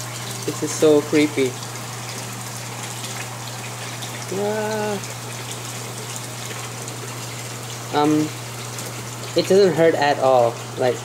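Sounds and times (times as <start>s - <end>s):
pump water hiss: 0.0s - 11.0s.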